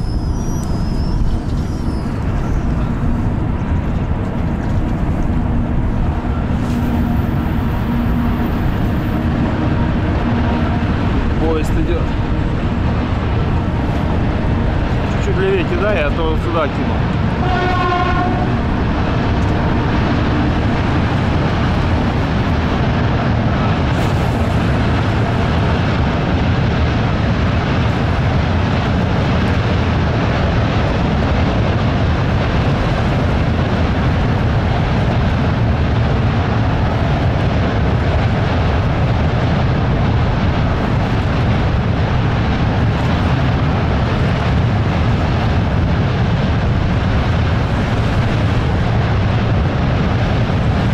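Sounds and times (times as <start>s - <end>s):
gusty wind on microphone: 0.0s - 50.9s.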